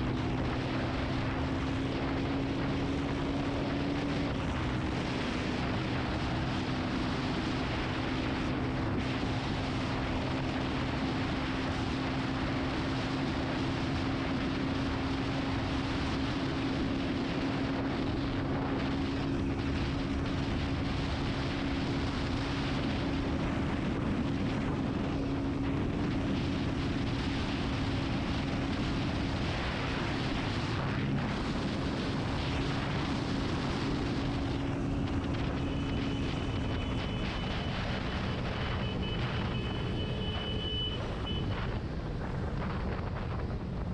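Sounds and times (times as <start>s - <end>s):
motorcycle engine cruising: 0.0s - 43.9s
wind noise: 0.0s - 43.9s.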